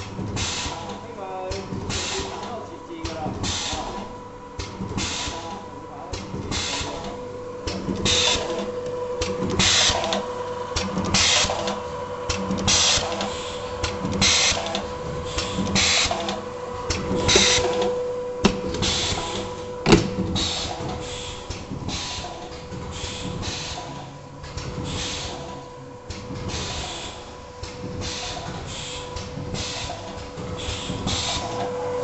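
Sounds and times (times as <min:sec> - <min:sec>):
machine humming: 0:00.0 - 0:32.0
machine hiss bursts: 0:00.4 - 0:01.0, 0:01.9 - 0:04.1, 0:07.7 - 0:24.0, 0:24.8 - 0:31.9.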